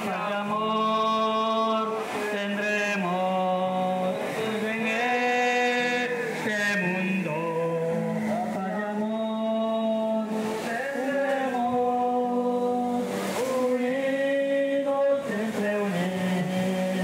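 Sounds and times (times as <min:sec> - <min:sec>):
men singing a worship song: 0:00.0 - 0:17.0.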